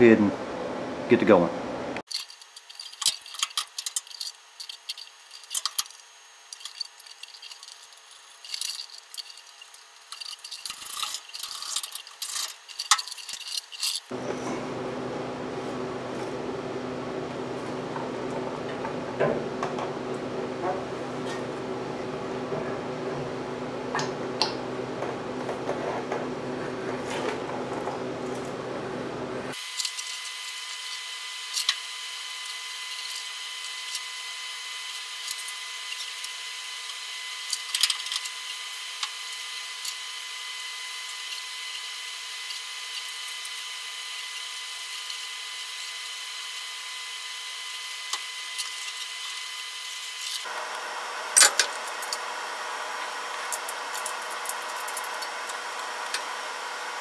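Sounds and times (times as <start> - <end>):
high electrical whine: 0.0 - 57.0.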